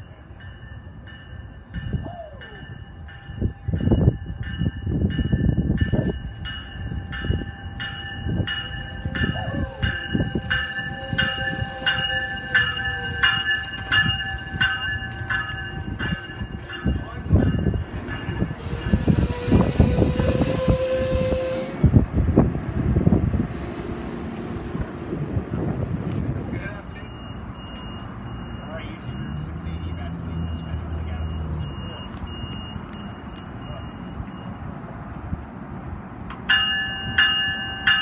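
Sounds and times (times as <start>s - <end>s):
train bell ringing: 0.0s - 21.8s, 24.9s - 34.8s, 36.5s - 38.0s
train wheels rumbling: 0.0s - 33.6s.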